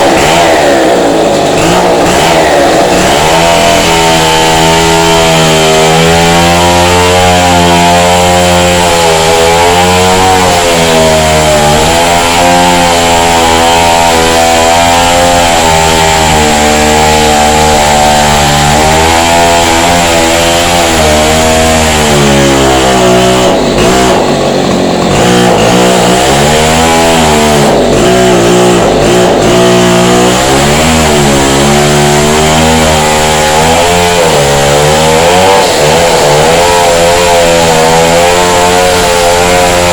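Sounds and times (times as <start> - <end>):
chainsaw cutting into wall: 0.0 - 39.9.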